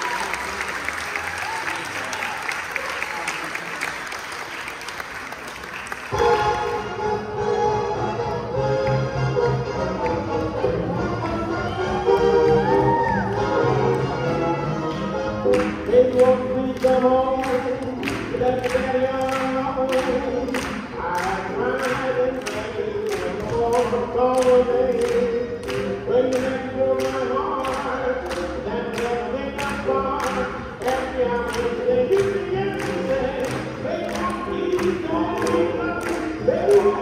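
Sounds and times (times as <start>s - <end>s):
swing band music: 6.1s - 37.0s.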